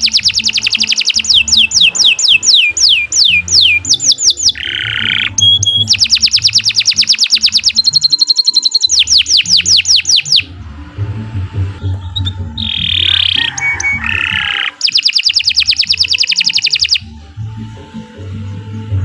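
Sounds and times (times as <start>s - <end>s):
canary singing: 0.0s - 18.9s.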